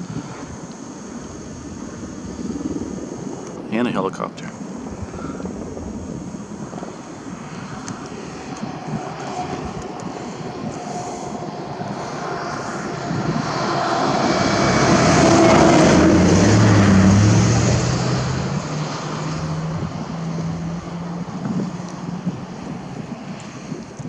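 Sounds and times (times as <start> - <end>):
low-flying aircraft passing overhead: 0.0 - 24.0.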